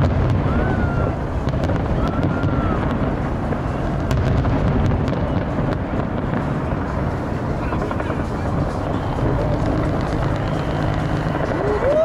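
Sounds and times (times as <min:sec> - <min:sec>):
fireworks crackling and popping: 0:00.0 - 0:12.0
fireworks shells bursting: 0:00.0 - 0:12.0
fireworks whistles: 0:00.0 - 0:12.0
large crowd noise: 0:00.0 - 0:12.0.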